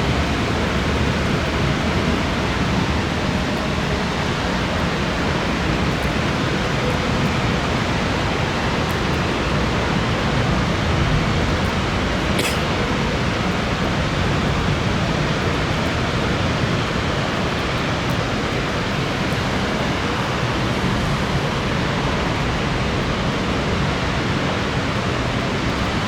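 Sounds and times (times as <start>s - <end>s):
rain downpour: 0.0s - 26.0s.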